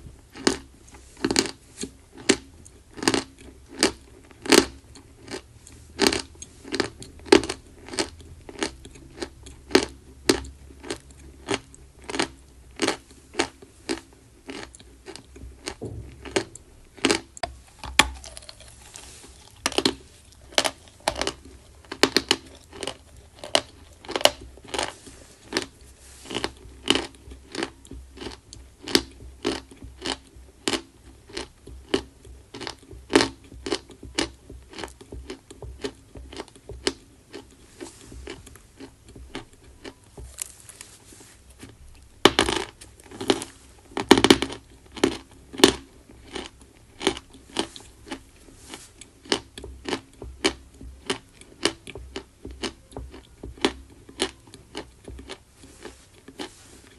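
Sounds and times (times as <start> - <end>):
chalk crunching while chewed: 0.3 - 56.9.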